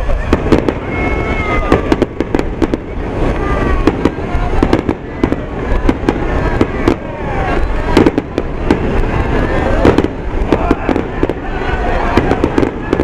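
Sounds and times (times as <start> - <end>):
echoing booms rumbling: 0.0 - 13.0
fireworks bangs and crackles: 0.0 - 13.0.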